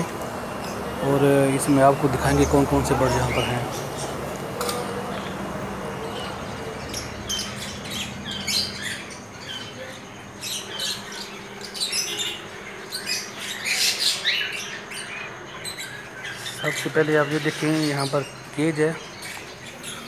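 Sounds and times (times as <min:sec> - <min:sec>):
birds chirping and squawking: 0:00.0 - 0:20.0.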